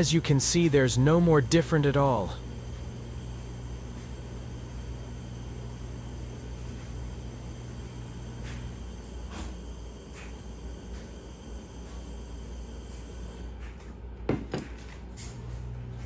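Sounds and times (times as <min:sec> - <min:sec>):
torch flame burning: 0:00.0 - 0:13.5.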